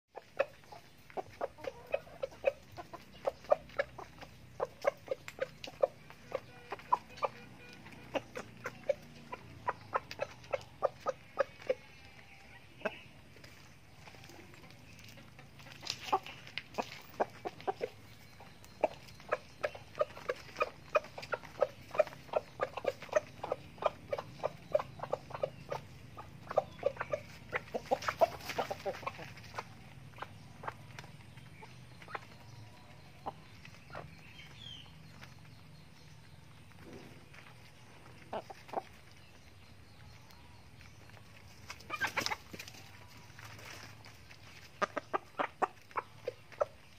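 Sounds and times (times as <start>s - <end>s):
chickens clucking: 0.1s - 46.9s.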